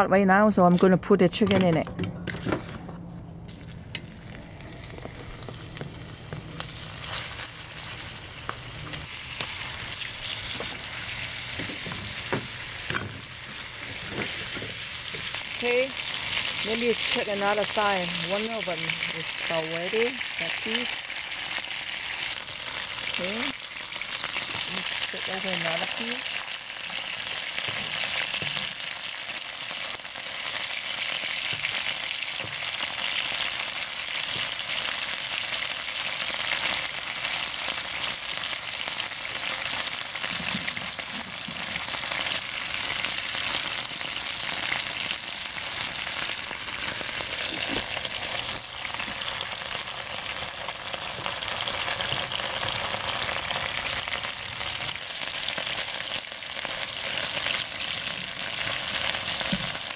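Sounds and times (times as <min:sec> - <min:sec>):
chicken frying in hot oil: 0:03.6 - 0:59.9.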